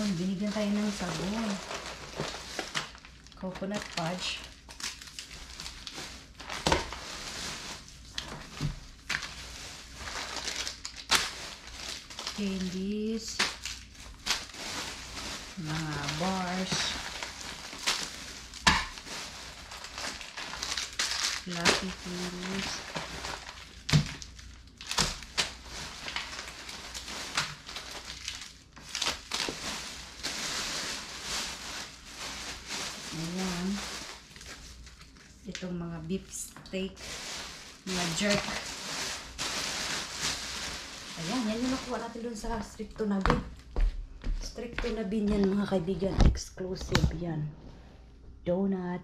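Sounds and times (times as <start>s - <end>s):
plastic wrappers crinkling: 0.0s - 43.9s.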